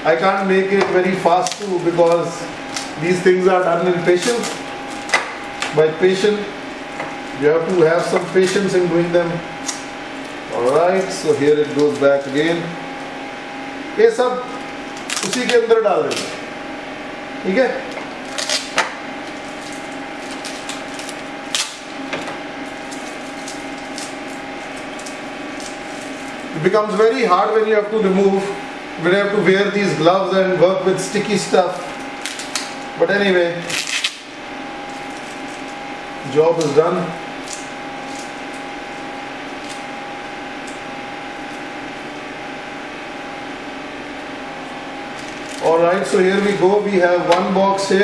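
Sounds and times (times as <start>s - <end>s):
fan humming: 0.0s - 48.0s.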